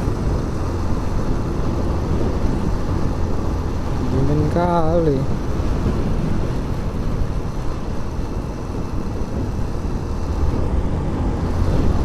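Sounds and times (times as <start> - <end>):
motorcycle road noise: 0.0 - 12.0
wind rush: 0.0 - 12.0.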